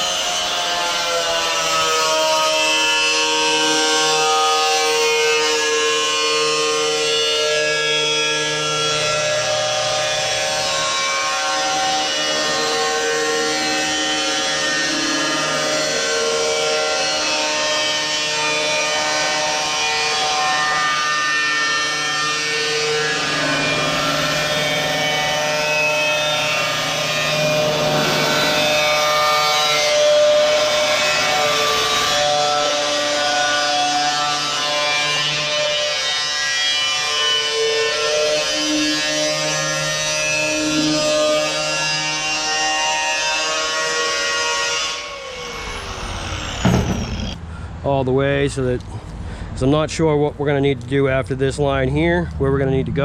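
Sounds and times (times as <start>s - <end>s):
cutoff wheel grinding steel: 0.1s - 47.4s.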